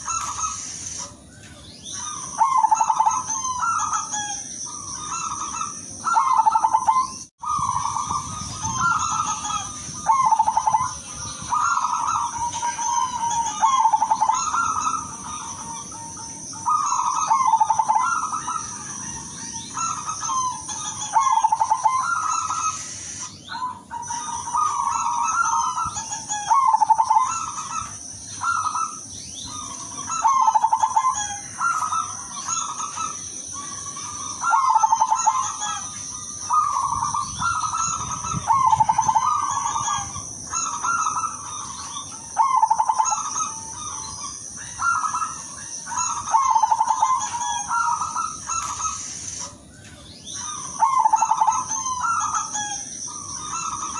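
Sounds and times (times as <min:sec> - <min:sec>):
dove cooing trilled call: 0:00.0 - 0:53.9.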